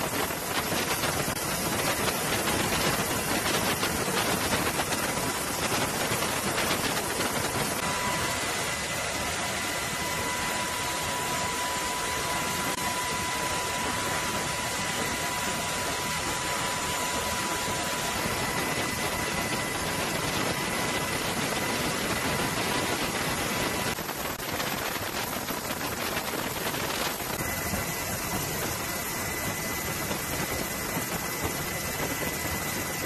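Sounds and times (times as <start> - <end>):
mechanical rushing with high whine: 0.0 - 33.0.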